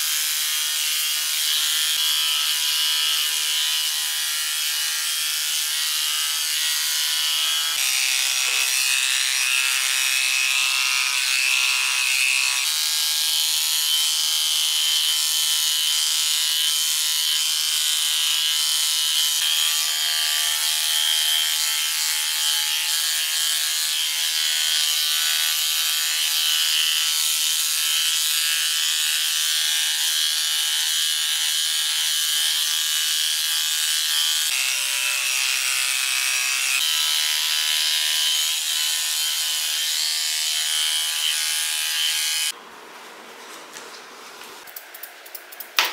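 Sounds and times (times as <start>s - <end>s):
blade rasping through hair: 0.0s - 42.6s
electric clippers buzzing: 0.0s - 42.6s.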